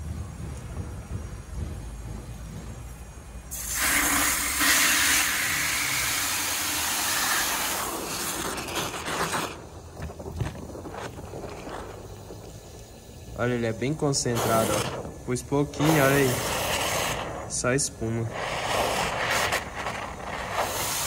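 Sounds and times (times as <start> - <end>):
hose water running into bucket: 3.5 - 21.0.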